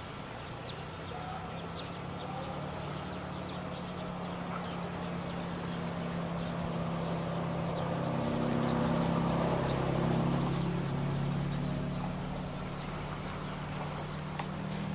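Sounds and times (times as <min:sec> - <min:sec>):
engine passing by: 0:00.0 - 0:14.9.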